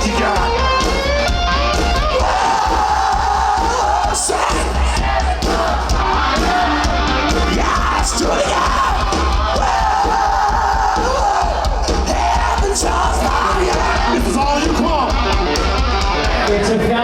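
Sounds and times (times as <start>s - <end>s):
crowd yelling and singing: 0.0s - 17.0s
live rock band: 0.0s - 17.0s.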